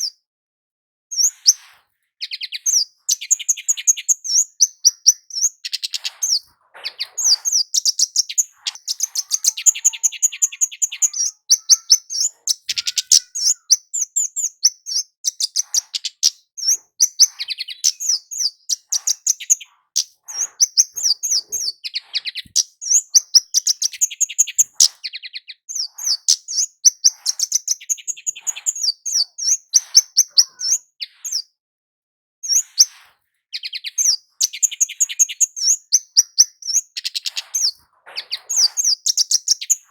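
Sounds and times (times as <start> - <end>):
bird chirping: 1.1 - 31.5, 32.4 - 39.9.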